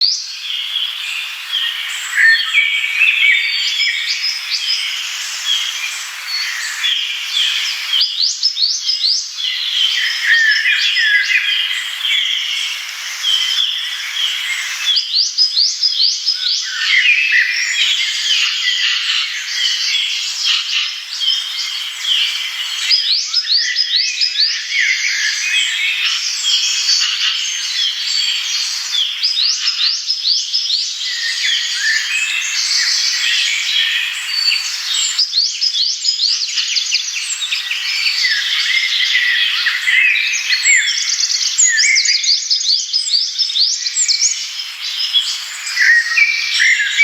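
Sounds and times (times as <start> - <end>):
songbirds chirping and trilling: 0.0 - 47.0.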